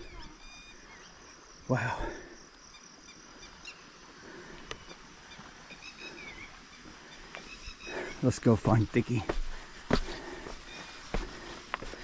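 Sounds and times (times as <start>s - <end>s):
faint bird calls: 0.0s - 8.3s, 9.1s - 12.0s.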